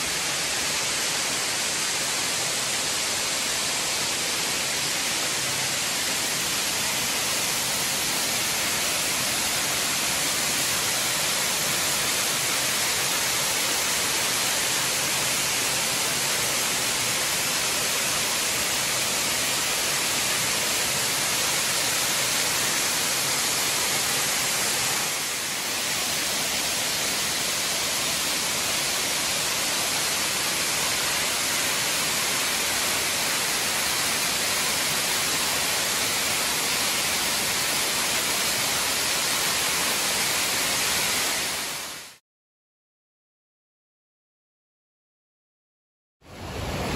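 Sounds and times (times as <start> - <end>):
waterfall pouring over rocks: 0.0 - 42.2.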